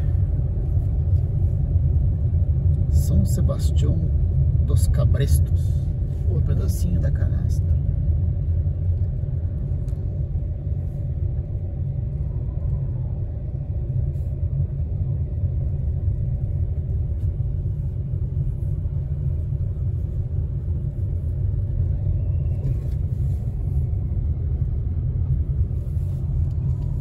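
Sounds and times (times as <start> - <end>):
car engine: 0.0 - 27.0
road noise: 0.0 - 27.0.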